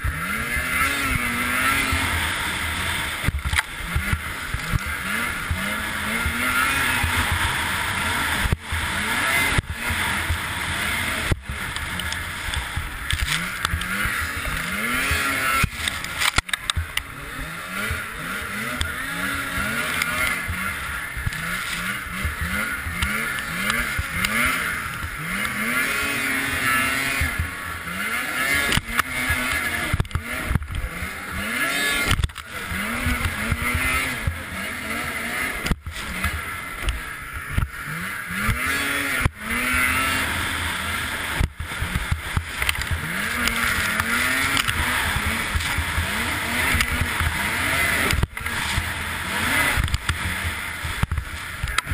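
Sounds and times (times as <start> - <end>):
snowmobile engine revving: 0.0 - 51.9
wind and track noise: 0.0 - 51.9.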